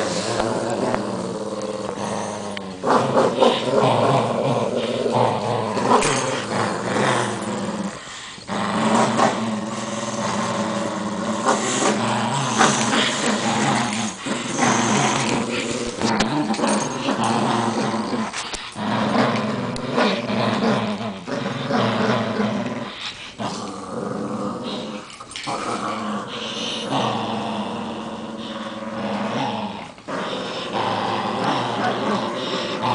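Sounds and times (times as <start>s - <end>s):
small dogs growling: 0.0s - 32.9s.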